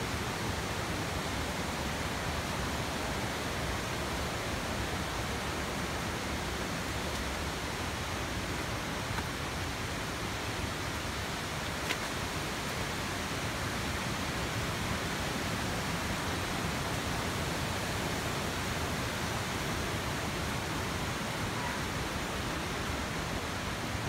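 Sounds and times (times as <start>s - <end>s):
distant waterfall roar: 0.0s - 24.0s.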